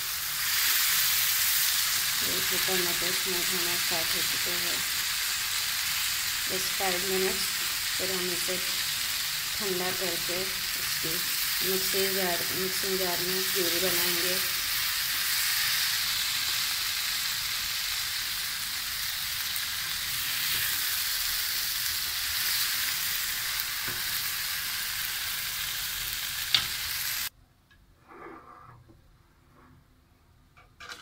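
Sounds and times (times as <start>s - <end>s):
vegetables sizzling in a pan: 0.0s - 27.3s.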